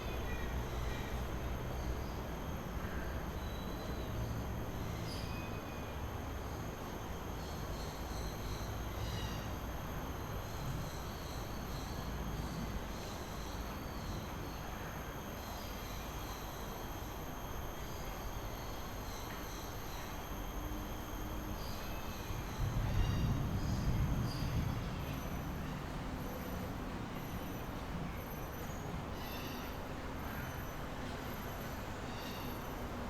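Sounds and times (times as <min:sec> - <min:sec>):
insects whining: 0:00.0 - 0:33.0.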